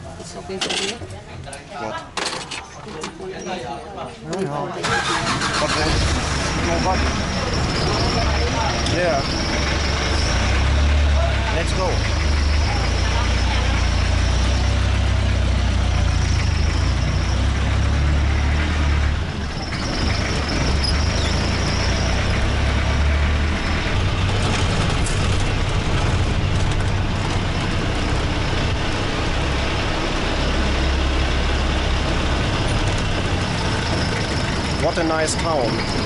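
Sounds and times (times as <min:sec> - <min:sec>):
road noise: 0:00.0 - 0:36.0
diesel engine rumble: 0:04.8 - 0:36.0.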